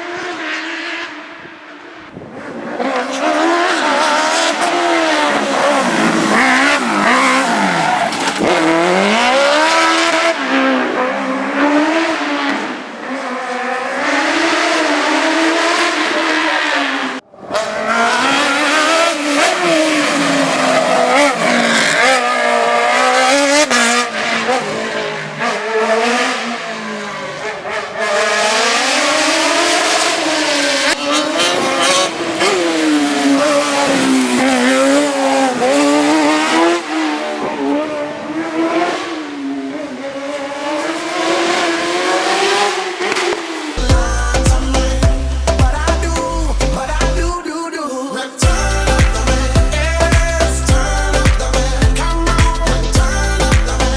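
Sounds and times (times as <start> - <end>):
race car engine at full throttle: 0.0 - 47.4, 48.4 - 53.9.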